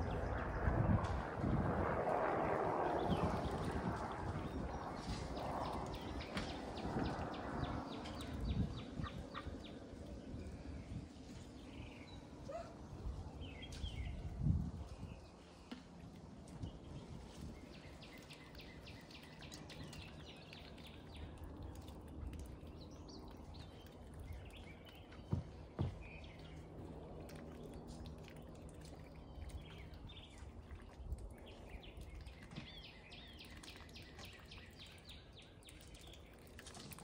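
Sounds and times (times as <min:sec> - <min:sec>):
small birds chirping: 0:02.8 - 0:37.0.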